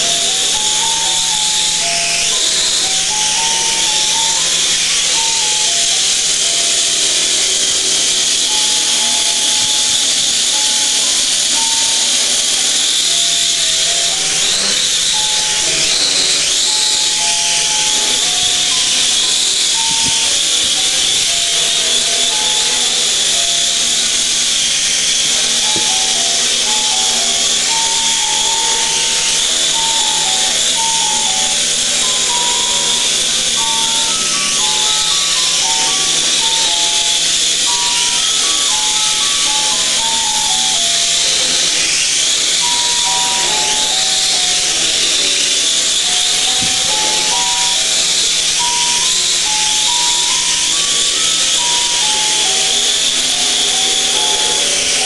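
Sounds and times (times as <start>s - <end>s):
drone propellers whirring: 0.0s - 55.0s.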